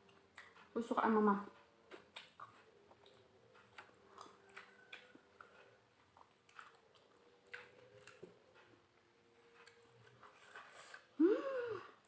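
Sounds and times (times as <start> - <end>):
faint chewing with wet mouth clicks: 0.0 - 0.8, 1.9 - 11.1.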